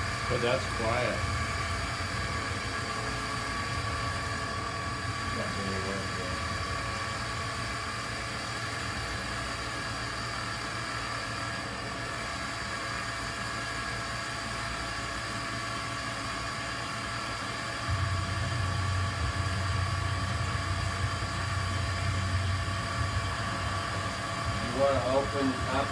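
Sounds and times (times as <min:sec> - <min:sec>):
constant whining tones: 0:00.0 - 0:12.8, 0:17.2 - 0:25.9
compressor humming: 0:00.0 - 0:25.9.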